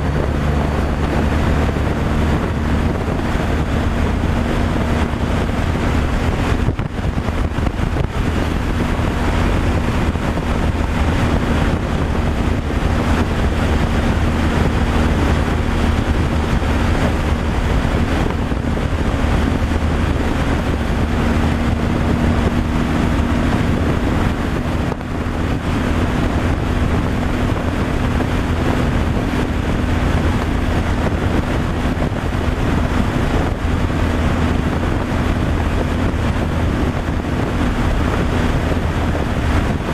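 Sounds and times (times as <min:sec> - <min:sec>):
road and wind noise: 0:00.0 - 0:39.9
truck engine drone: 0:00.0 - 0:39.9.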